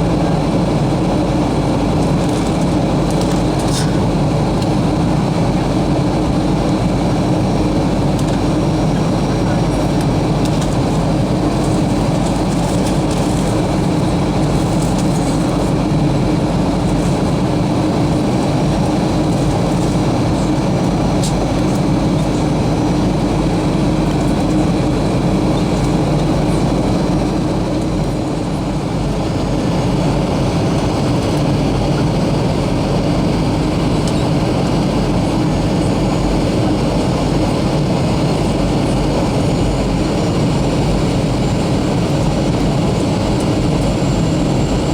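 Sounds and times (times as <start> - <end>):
airplane cabin engine rush: 0.0 - 44.9.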